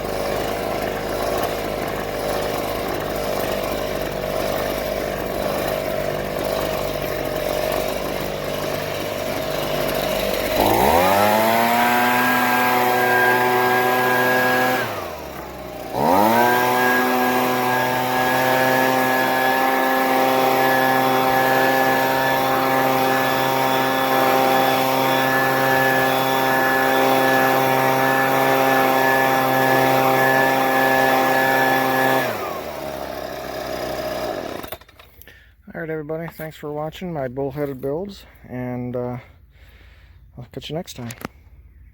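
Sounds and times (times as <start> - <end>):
leaf blower revving: 0.0 - 36.5.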